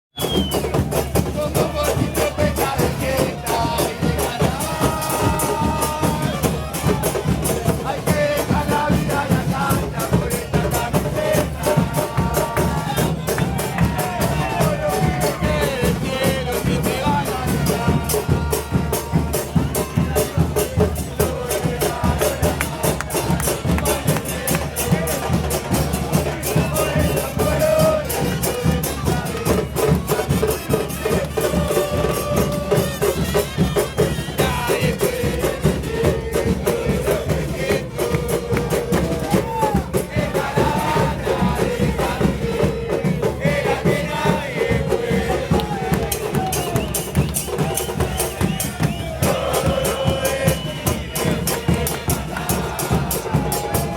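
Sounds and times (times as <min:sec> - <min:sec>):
crowd singing: 0:00.2 - 0:53.9
drum-driven music: 0:00.2 - 0:53.9.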